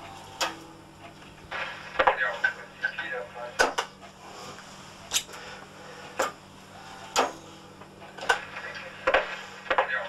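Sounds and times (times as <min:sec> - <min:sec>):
faint hiss and low hum: 0:00.0 - 0:10.0.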